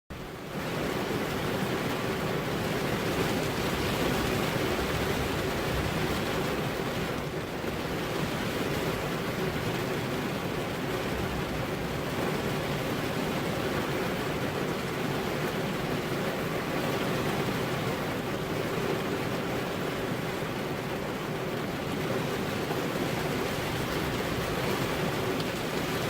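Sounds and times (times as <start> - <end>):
rain on car windows: 0.1 - 26.0.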